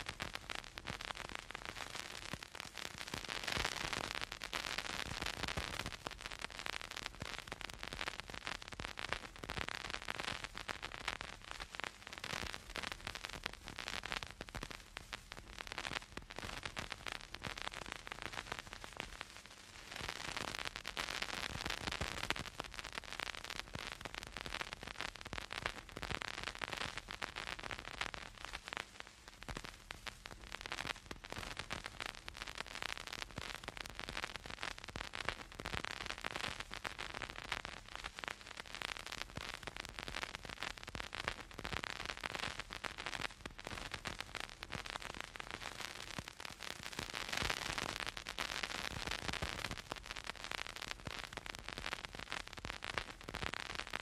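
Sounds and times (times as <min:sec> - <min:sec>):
vinyl record crackle and hiss: 0:00.0 - 0:54.0.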